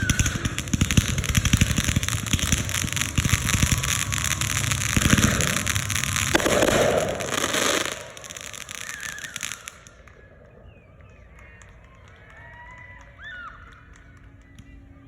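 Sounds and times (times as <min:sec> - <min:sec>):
fireworks low thuds: 0:00.0 - 0:12.2
fireworks crackling pops: 0:00.0 - 0:12.4.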